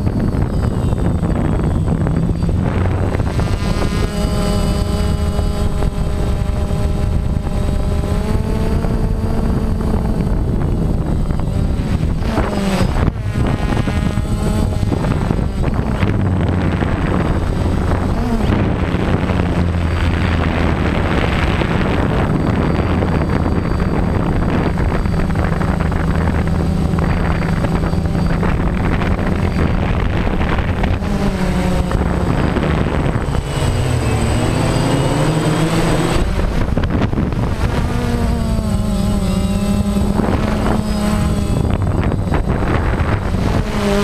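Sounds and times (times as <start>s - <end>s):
drone propellers humming: 0.0s - 44.0s
wind buffeting microphone: 0.0s - 44.0s.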